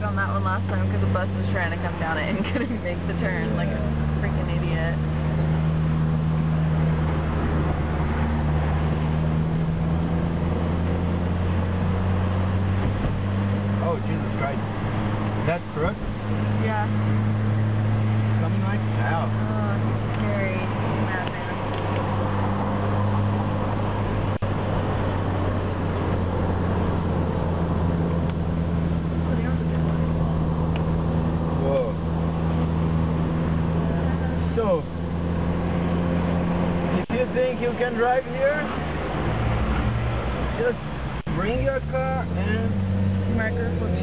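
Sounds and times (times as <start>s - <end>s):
car engine droning: 0.0s - 44.0s
tyres on wet road: 0.0s - 44.0s.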